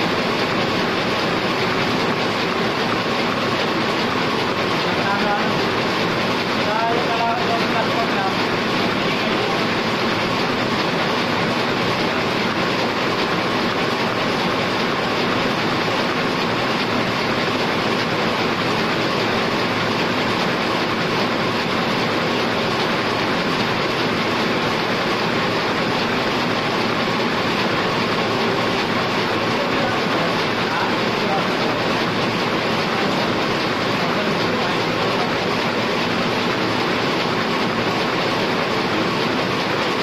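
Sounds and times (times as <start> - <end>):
printing press running: 0.0 - 40.0.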